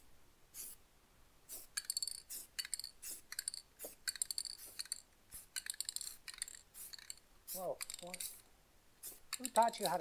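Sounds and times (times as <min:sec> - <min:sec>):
spray paint hiss: 0:00.5 - 0:00.8, 0:01.4 - 0:10.0.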